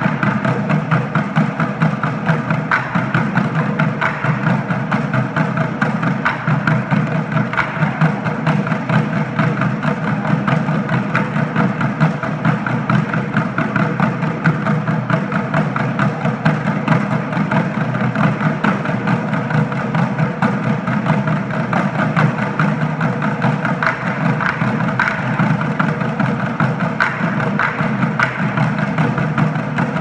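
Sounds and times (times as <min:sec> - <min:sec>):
drum line playing fast rhythm: 0:00.0 - 0:30.0.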